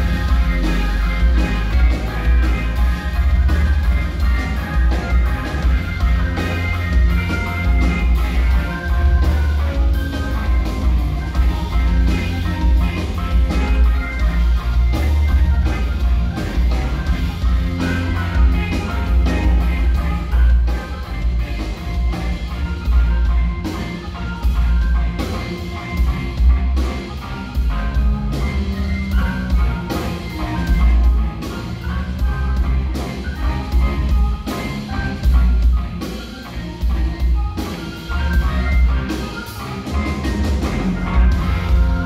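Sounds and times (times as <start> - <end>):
bass line: 0.0 - 42.0
drum kit: 0.0 - 42.0
electric guitar: 0.0 - 42.0
organ: 0.0 - 42.0.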